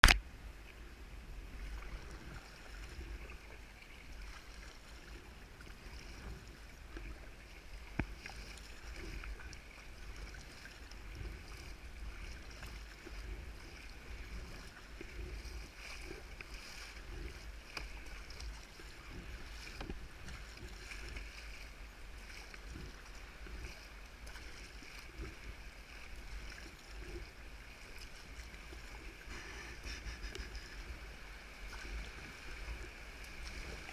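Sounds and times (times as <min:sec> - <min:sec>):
paddle blades splashing: 0:00.0 - 0:33.9
steady low rumble: 0:00.0 - 0:33.9
water lapping around hull: 0:00.0 - 0:33.9.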